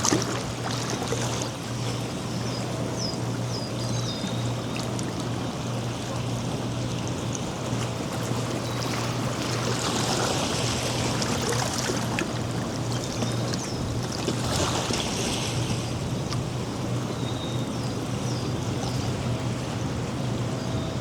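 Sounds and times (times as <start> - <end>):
ocean waves breaking on beach: 0.0 - 3.1, 4.1 - 21.0
steady low hum: 0.0 - 21.0.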